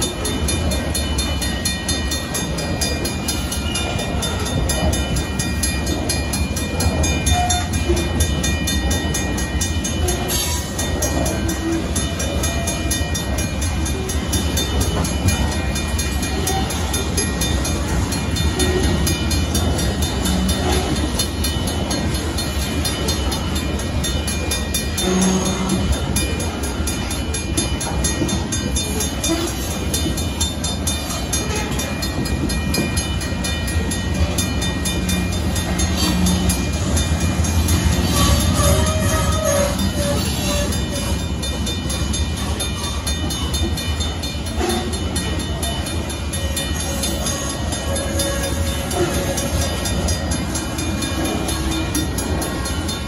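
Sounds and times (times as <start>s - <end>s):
crossing warning bell: 0.0s - 53.0s
freight train wheels clacking: 0.0s - 53.0s.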